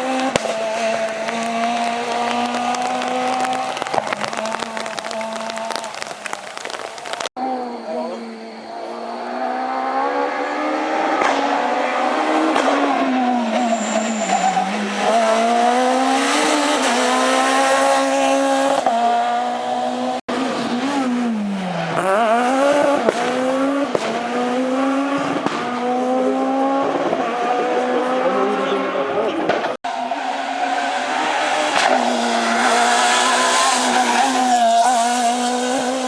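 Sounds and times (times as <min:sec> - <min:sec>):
rally car engine at full throttle: 0:00.0 - 0:36.0.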